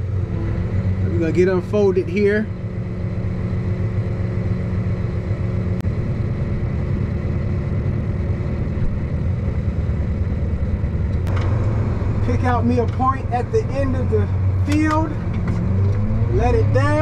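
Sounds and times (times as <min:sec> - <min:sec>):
steady higher hum: 0:00.0 - 0:17.0
tractor engine droning: 0:00.0 - 0:17.0.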